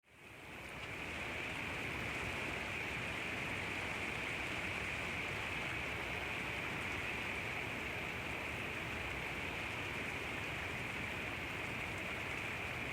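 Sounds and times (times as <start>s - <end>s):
steady rain hiss: 0.0s - 12.9s.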